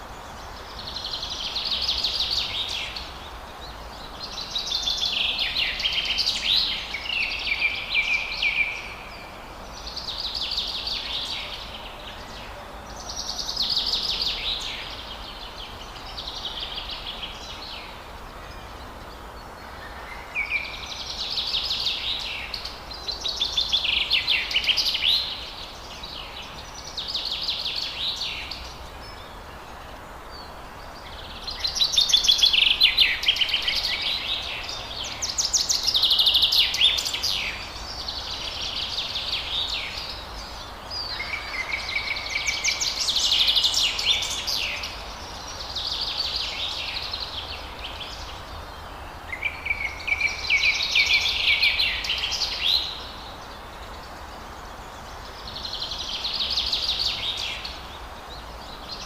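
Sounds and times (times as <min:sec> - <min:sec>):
faint background hiss: 0:00.0 - 0:59.0.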